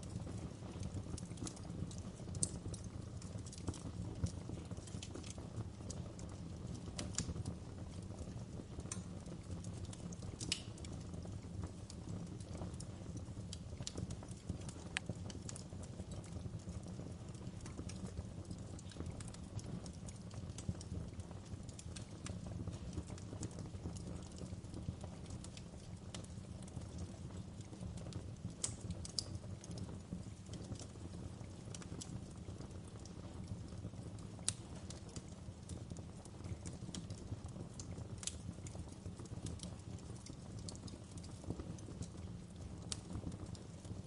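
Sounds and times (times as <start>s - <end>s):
low rumble of burning: 0.0s - 44.0s
wood fire crackling: 0.0s - 44.0s.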